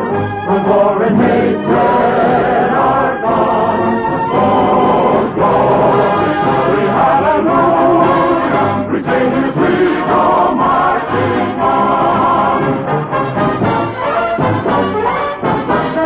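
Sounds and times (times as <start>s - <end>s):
choir and orchestra marching song: 0.0s - 16.0s.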